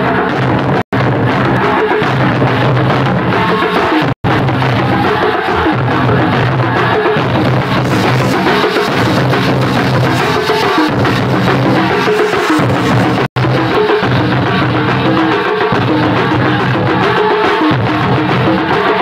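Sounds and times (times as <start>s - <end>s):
loud drum-led music: 0.0s - 19.0s.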